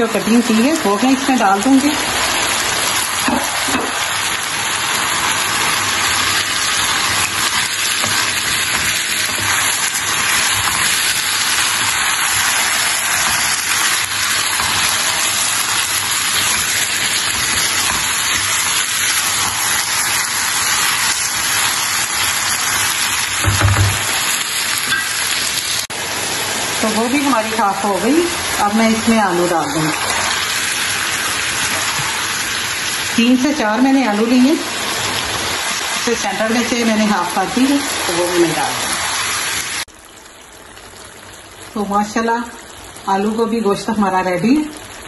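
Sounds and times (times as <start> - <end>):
curry sizzling in a frying pan: 0.0 - 45.0.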